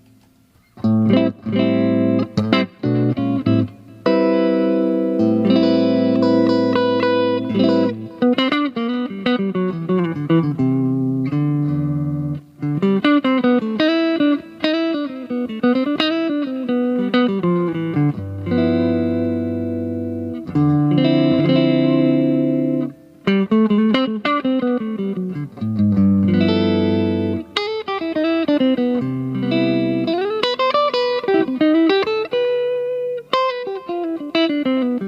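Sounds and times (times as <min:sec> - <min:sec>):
electric guitar playing: 0:00.0 - 0:35.0.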